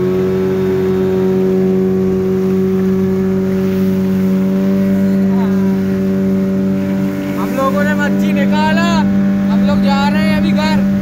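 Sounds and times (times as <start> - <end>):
boat motor running: 0.0 - 11.0
rushing water: 0.0 - 11.0.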